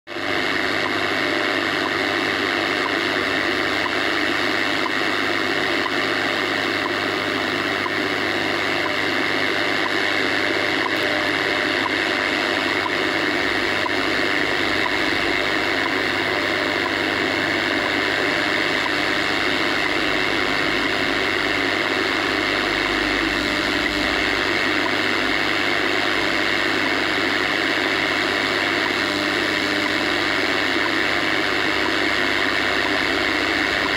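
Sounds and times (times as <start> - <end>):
shortwave radio static: 0.1 - 33.9.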